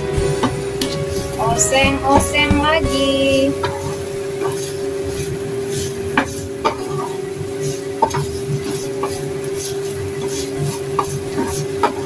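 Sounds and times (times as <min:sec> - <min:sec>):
metal spatula scraping a wok: 0:00.0 - 0:01.8, 0:03.5 - 0:12.0
faint sizzle: 0:00.0 - 0:12.0.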